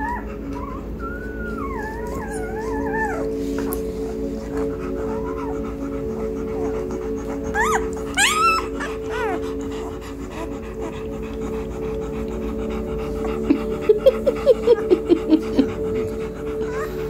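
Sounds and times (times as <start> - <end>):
puppy squealing: 0.0 - 12.4, 13.3 - 17.0
puppy grunting: 0.0 - 17.0
steady low hum: 0.0 - 17.0.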